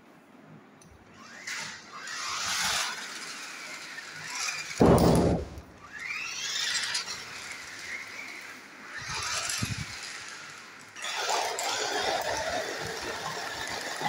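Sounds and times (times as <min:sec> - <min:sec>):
toy car electric motors: 0:01.0 - 0:04.8, 0:05.8 - 0:14.0.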